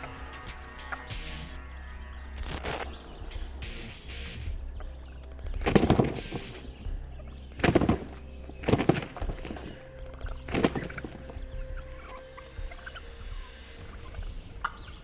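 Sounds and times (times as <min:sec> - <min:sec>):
soft background music: 0:00.0 - 0:15.0
turkeys gobbling: 0:00.0 - 0:15.0.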